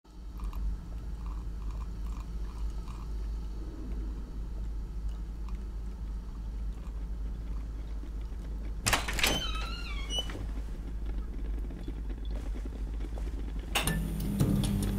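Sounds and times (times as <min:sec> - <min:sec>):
low hum: 0:00.1 - 0:14.9.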